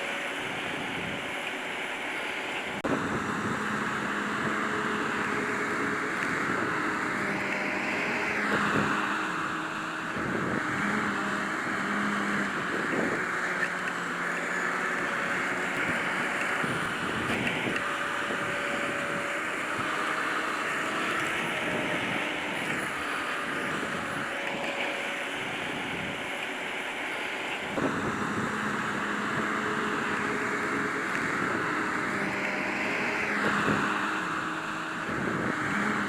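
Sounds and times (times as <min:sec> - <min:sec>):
harvester machinery drone: 0:00.0 - 0:36.0.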